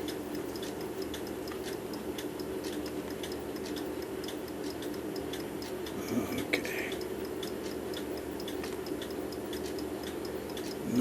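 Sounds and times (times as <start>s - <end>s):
mechanical clock ticking: 0.0s - 11.0s.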